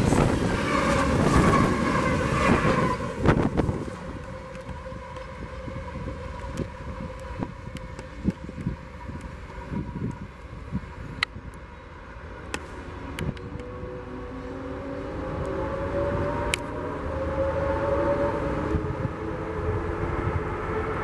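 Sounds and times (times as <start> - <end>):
distant diesel locomotives rumbling: 0.0 - 21.0
wind buffeting microphone: 0.0 - 21.0.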